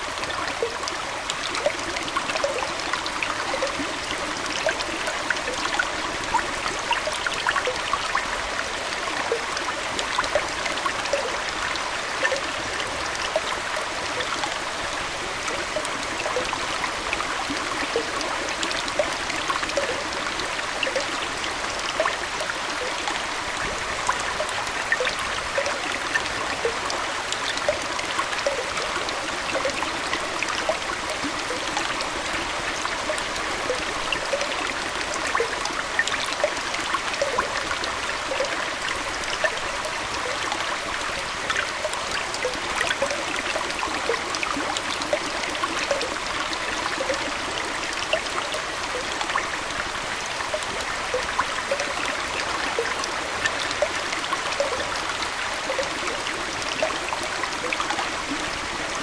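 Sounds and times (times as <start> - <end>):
aquarium water flowing: 0.0 - 59.0.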